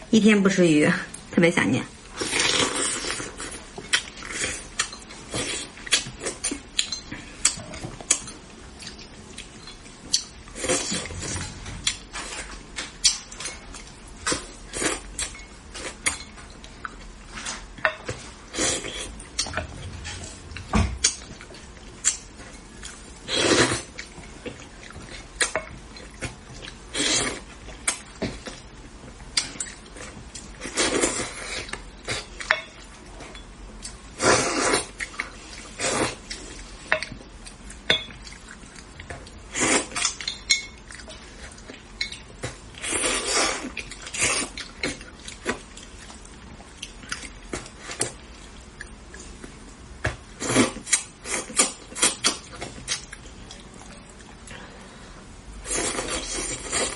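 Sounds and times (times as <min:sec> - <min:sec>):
slurping and chewing: 0:02.1 - 0:28.7, 0:29.4 - 0:33.1, 0:33.8 - 0:49.6, 0:50.3 - 0:55.0, 0:55.6 - 0:56.9.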